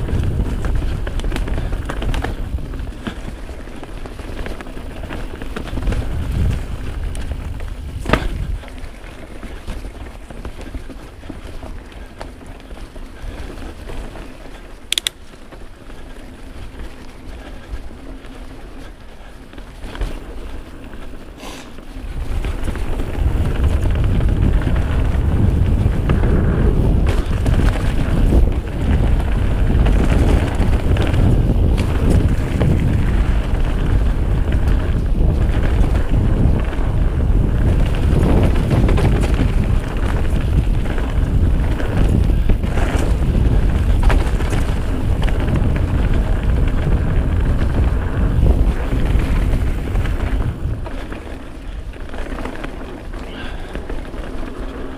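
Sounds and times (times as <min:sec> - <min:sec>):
mountain bike rumbling and rattling: 0:00.0 - 0:54.9
wind rushing over microphone: 0:00.0 - 0:54.9.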